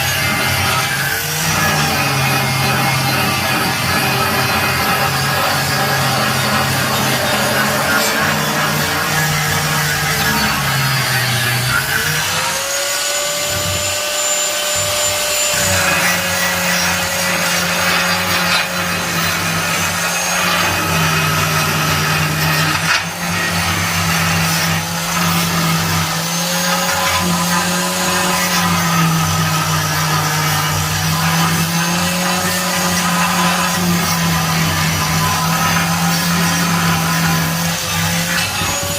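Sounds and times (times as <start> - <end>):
power tool motor running: 0.0 - 38.9.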